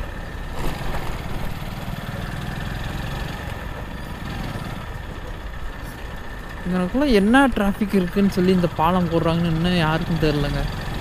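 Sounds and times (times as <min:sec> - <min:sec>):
road and wind noise: 0:00.0 - 0:11.0
small motorcycle engine running: 0:00.0 - 0:11.0.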